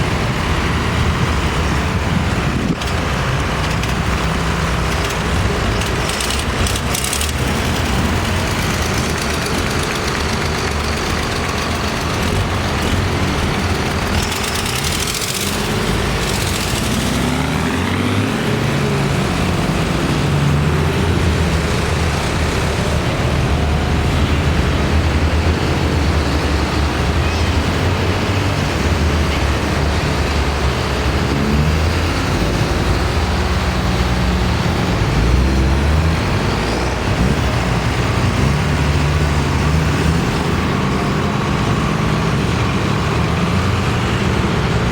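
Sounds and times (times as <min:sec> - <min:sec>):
tractor engines rumbling: 0:00.0 - 0:44.9.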